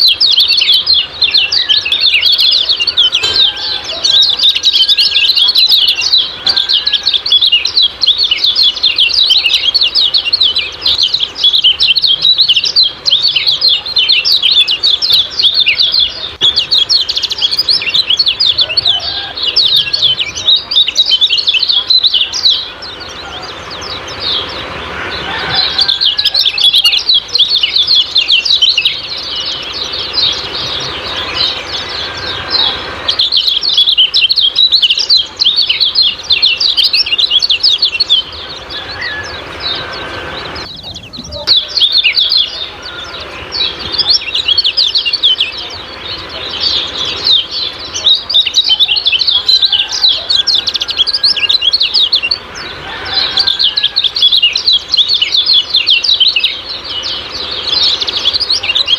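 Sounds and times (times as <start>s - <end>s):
songbird rapid chirping: 0.0s - 58.9s.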